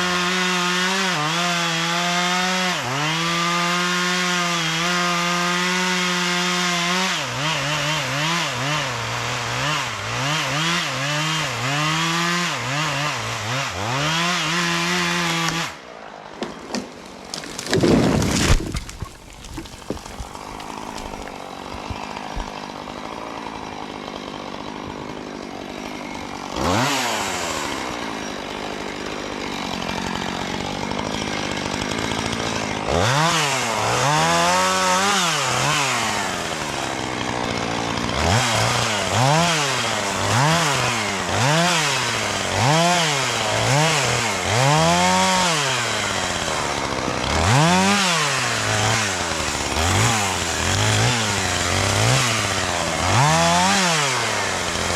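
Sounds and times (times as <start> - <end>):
chainsaw engine revving: 0.0 - 15.8, 16.6 - 54.9.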